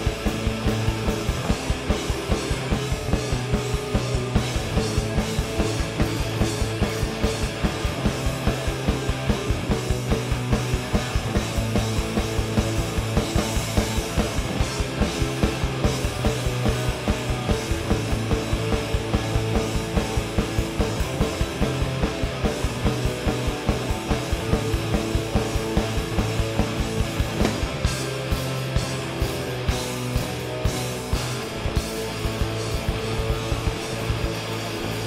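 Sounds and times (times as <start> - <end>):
punk rock band playing: 0.0 - 35.0.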